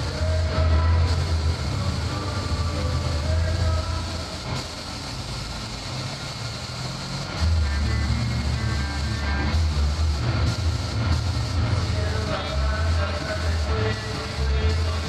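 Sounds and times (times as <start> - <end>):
paint spray gun hissing: 0.0 - 15.0
steady low rumble: 0.0 - 15.0.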